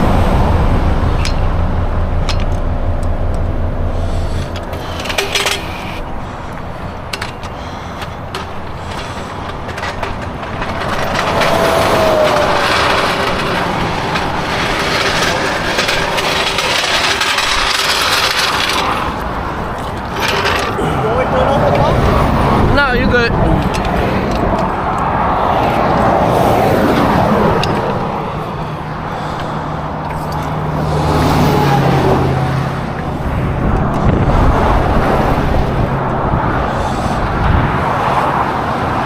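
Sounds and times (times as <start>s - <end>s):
low engine rumble: 0.0s - 39.0s
passing traffic: 0.0s - 39.0s
clicks and knocks from tire work: 0.9s - 21.0s, 23.4s - 39.0s.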